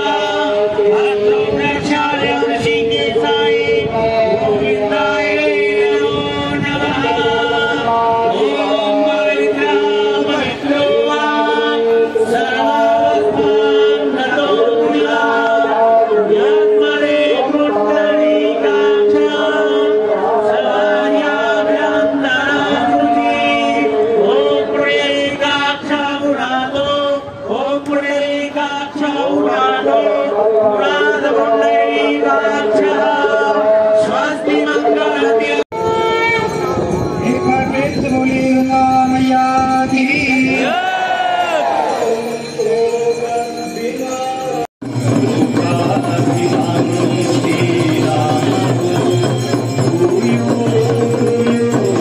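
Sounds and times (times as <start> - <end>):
voices singing and chanting: 0.0 - 52.0.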